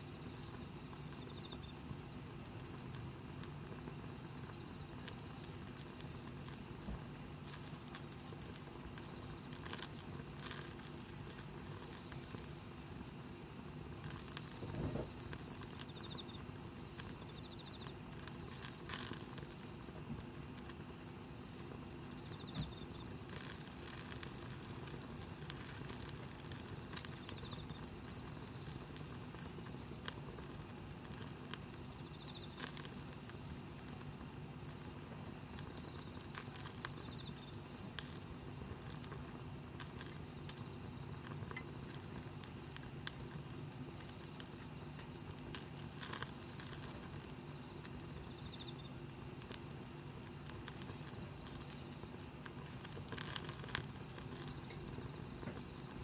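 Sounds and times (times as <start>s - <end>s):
campfire crackling: 1.9s - 56.0s.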